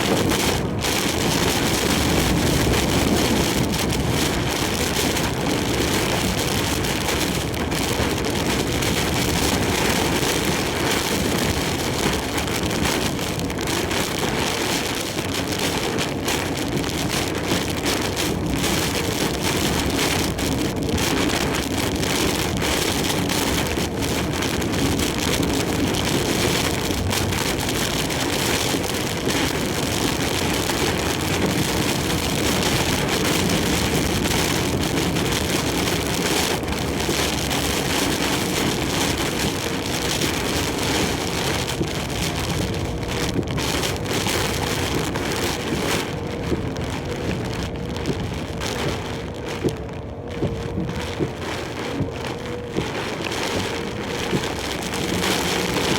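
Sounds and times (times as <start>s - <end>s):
heavy rain beating on truck cab: 0.0s - 55.9s
truck rumble on road: 0.0s - 55.9s.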